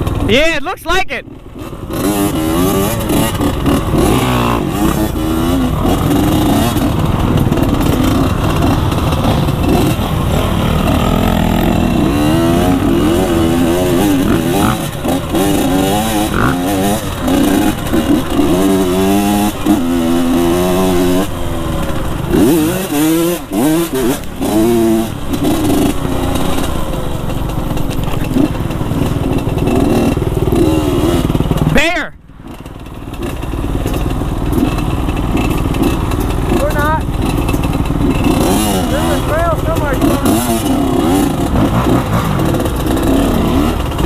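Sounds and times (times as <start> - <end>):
dirt bike engine under load: 1.6 - 31.8, 32.4 - 44.0.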